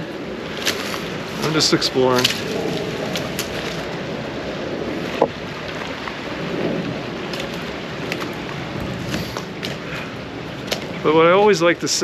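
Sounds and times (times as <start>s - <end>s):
water rushing down concrete channel: 0.0s - 12.0s.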